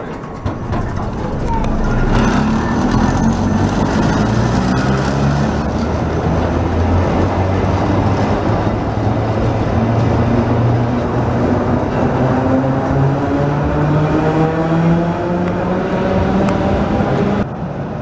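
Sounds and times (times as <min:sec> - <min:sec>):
tram rumbling on rails: 0:00.0 - 0:18.0.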